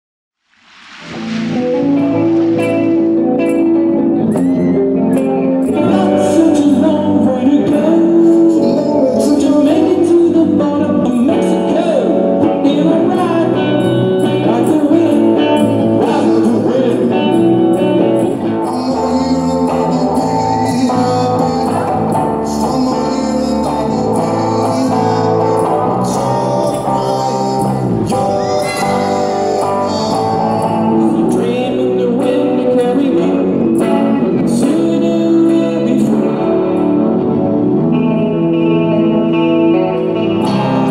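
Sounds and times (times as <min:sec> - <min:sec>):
soft rock song on guitars: 0:00.7 - 0:40.9
man singing: 0:05.7 - 0:37.4, 0:38.9 - 0:40.9.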